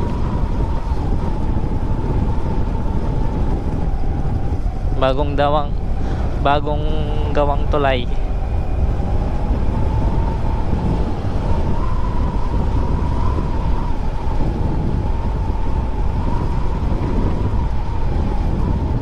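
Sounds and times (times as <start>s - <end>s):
scooter engine whine: 0.0s - 19.0s
wind rumble on microphone: 0.0s - 19.0s.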